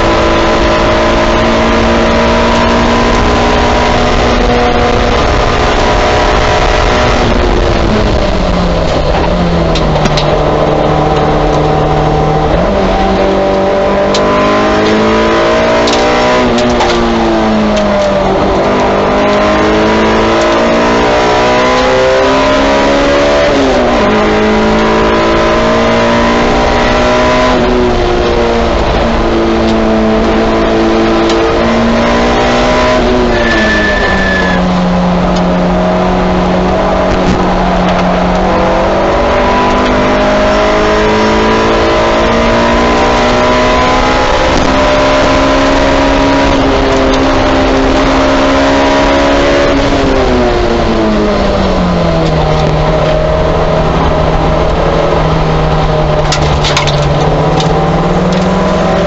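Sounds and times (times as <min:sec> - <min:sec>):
race car engine: 0:00.0 - 0:59.0.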